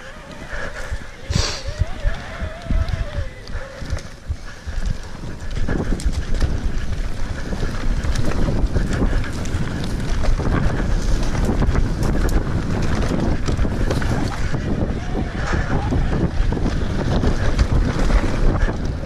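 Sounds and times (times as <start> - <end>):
bike clicks and rattles: 0.0 - 19.0
tyres rumbling on dirt: 0.0 - 19.0
wind buffeting microphone: 0.0 - 19.0.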